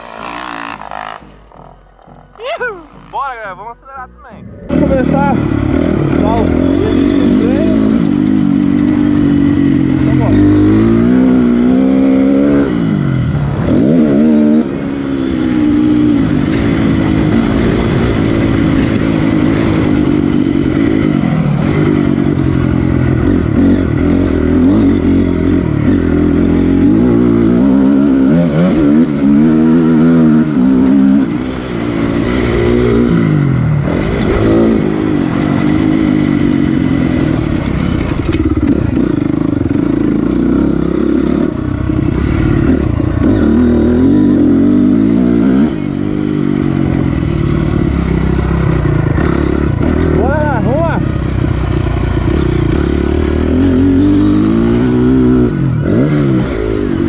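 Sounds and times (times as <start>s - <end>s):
dirt bike engine revving: 0.0s - 3.6s, 4.4s - 57.0s.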